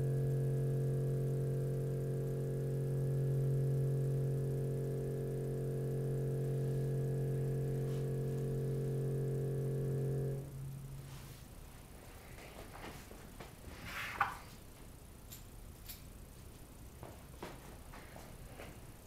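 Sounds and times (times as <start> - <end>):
wave driver buzzing: 0.0 - 19.0.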